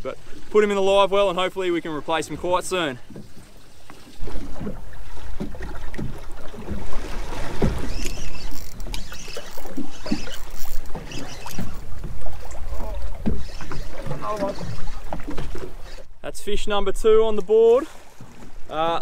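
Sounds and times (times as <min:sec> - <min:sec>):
water lapping against boat hull: 0:00.0 - 0:19.0.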